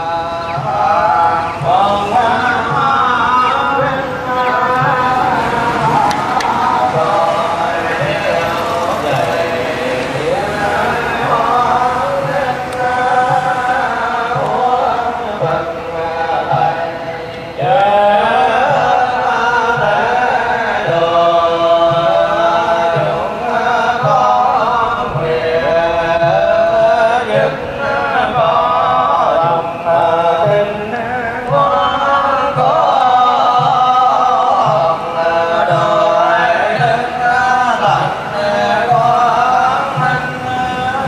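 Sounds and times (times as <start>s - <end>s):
voices chanting melodically: 0.0s - 41.0s.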